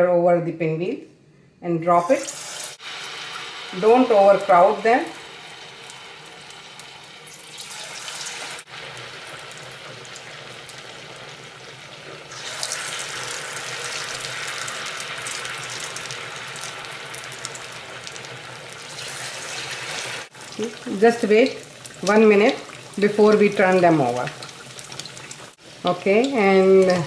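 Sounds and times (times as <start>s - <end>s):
food sizzling in deep-frying oil: 2.1s - 27.0s.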